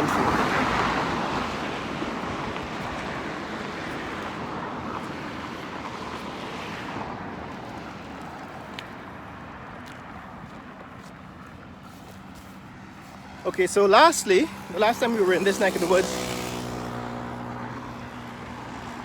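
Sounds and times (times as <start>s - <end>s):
passing vehicle rush: 0.0s - 19.0s
wind: 0.0s - 19.0s.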